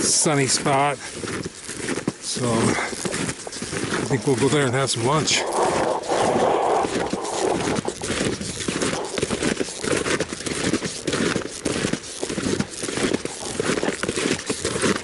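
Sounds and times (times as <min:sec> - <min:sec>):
snowshoes crunching on snow: 0:00.0 - 0:15.0.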